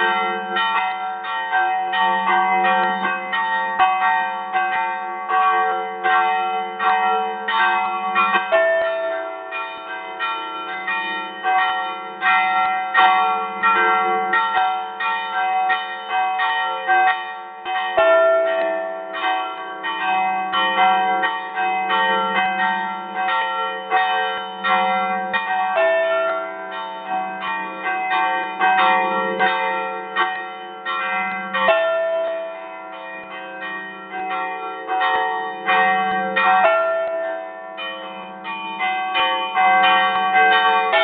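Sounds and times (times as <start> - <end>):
church bells ringing a peal: 0.0 - 41.0.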